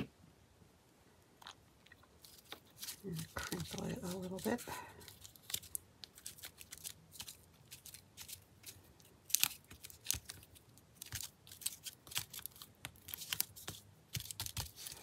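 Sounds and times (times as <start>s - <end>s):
paper rustling and crinkling: 2.2s - 15.0s.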